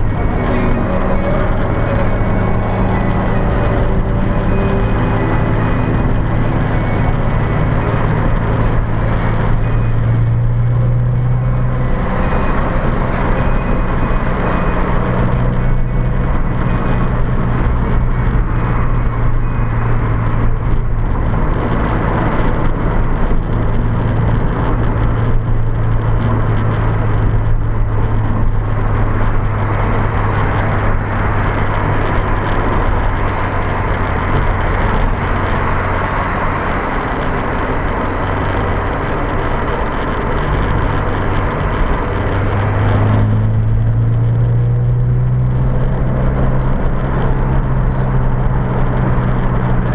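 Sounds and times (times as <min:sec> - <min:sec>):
car engine droning: 0:00.0 - 0:49.9
fine rattle in camera: 0:00.0 - 0:49.9
road noise: 0:00.0 - 0:49.9.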